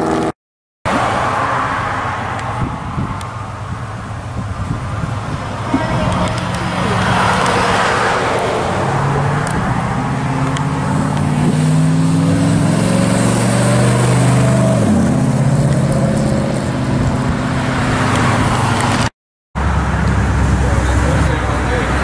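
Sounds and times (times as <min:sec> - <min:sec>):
car engine accelerating: 0:00.9 - 0:22.0.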